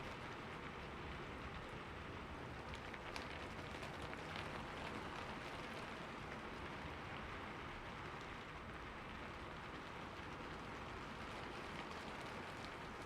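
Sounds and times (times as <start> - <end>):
rain pattering: 0.1 - 13.0.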